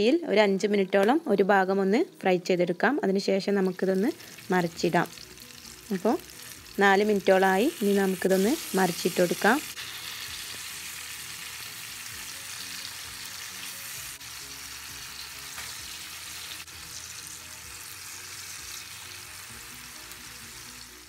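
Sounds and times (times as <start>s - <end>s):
fish sizzling in a pan: 3.6s - 21.0s.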